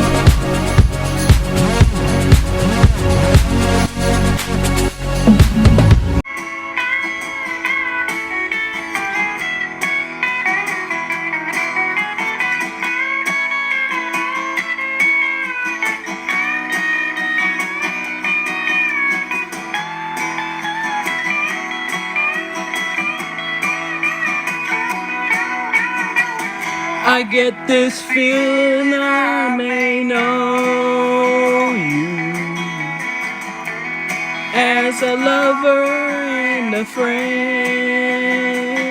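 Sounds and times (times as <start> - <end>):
slide guitar melody: 0.0 - 38.9.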